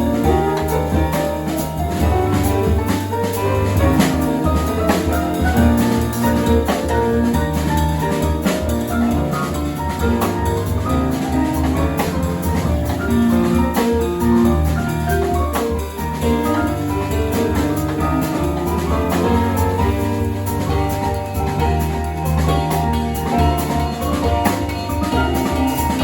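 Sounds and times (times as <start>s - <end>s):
drum kit keeping time: 0.0s - 26.0s
keyboard and piano notes: 0.0s - 26.0s.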